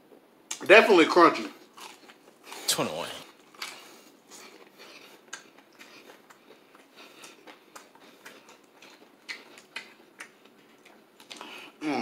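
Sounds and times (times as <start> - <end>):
fried chicken crunching: 1.7 - 11.5.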